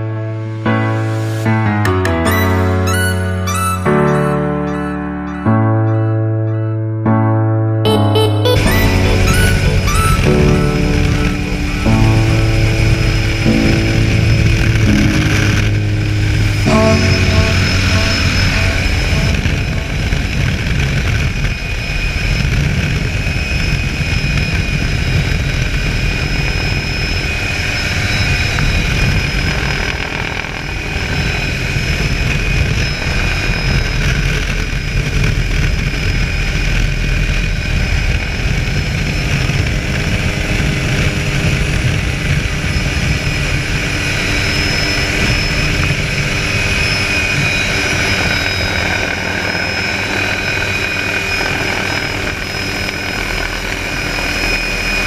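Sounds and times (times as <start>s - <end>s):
wind rushing in: 8.6s - 54.4s
helicopter engine and rotor: 8.6s - 55.0s.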